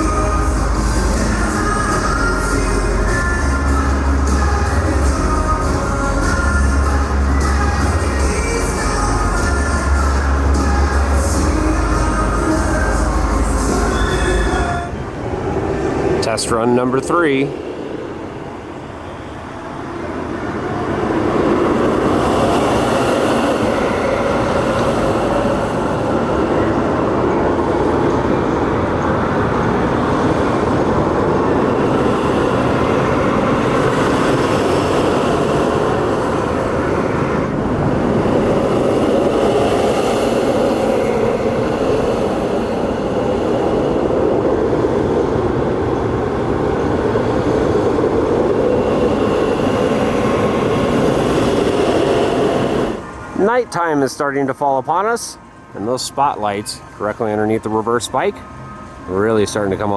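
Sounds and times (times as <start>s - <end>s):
roller coaster rumble: 0.0s - 59.9s.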